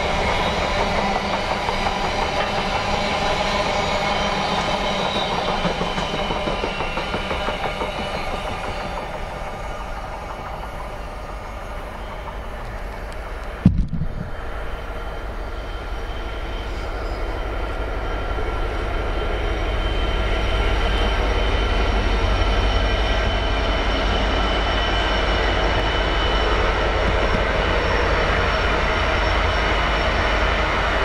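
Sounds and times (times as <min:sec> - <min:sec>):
train passing: 0:00.0 - 0:31.0.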